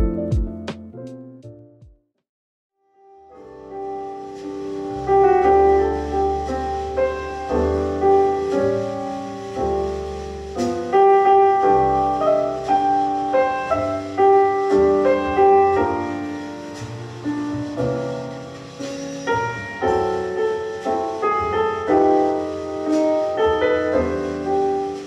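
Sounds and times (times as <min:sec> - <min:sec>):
piano music over deep bass: 0:00.0 - 0:02.0, 0:03.0 - 0:25.0.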